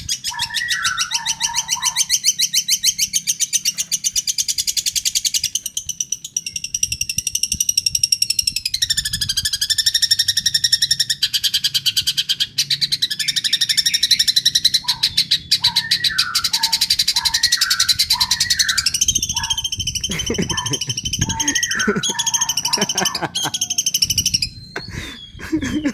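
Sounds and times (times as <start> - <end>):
bird rapid trill: 0.0 - 25.9.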